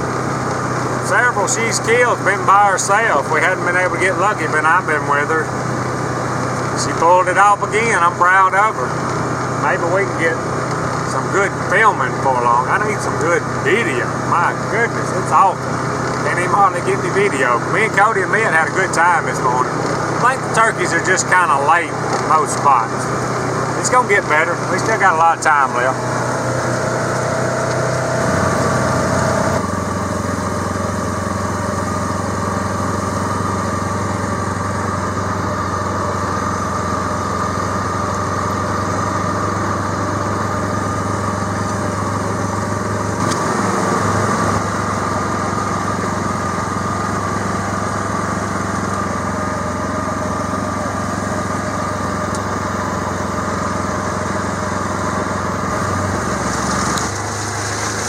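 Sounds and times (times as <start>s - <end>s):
small engine droning: 0.0s - 58.0s
thin whine: 0.0s - 58.0s.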